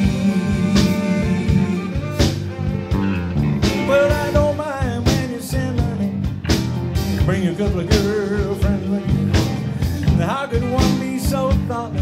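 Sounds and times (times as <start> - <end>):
drum kit: 0.0 - 12.0
electric guitars: 0.0 - 12.0
saxophone: 0.0 - 12.0.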